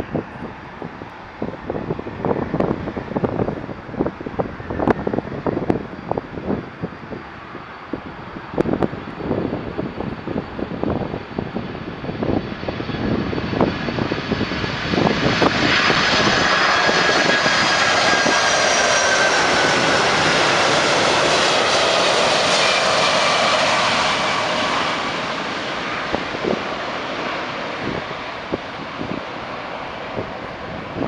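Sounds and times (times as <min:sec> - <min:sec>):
jet airliner flying overhead: 0:00.0 - 0:31.0
wind buffeting microphone: 0:00.0 - 0:31.0.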